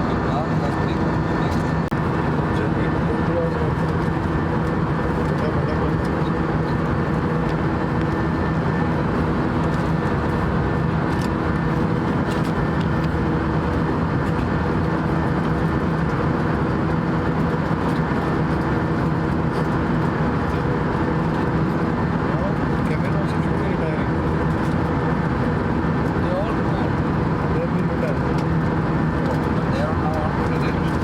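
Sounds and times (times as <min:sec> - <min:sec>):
airplane cabin rushing and hum: 0:00.0 - 0:31.0.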